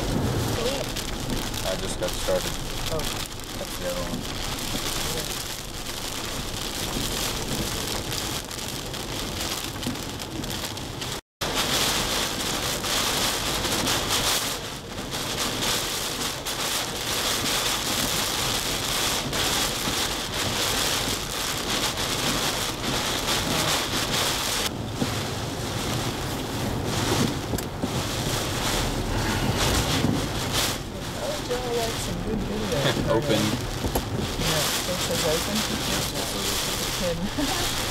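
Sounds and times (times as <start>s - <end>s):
heavy driving rain: 0.0s - 37.9s
wind gusts: 0.0s - 37.9s.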